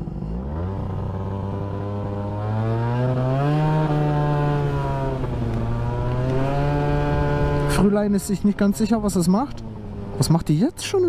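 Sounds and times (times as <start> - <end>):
scooter engine pulling away: 0.0 - 7.9, 9.2 - 10.9.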